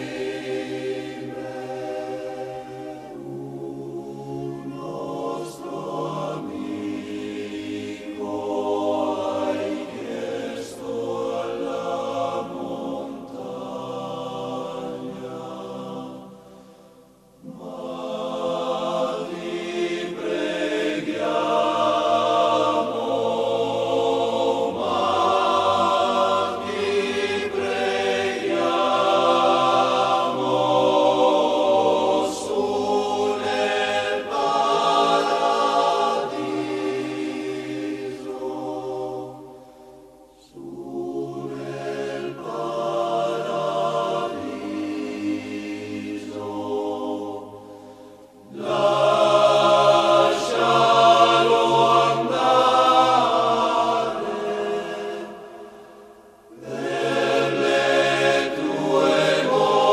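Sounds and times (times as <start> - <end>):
choir singing sustained chords: 0.0 - 59.9.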